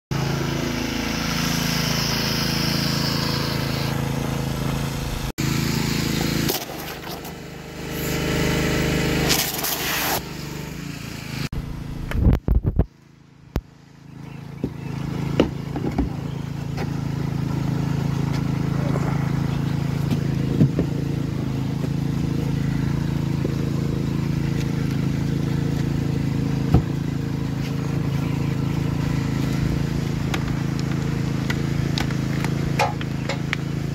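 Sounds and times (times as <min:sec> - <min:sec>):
small engine running: 0:00.1 - 0:33.9.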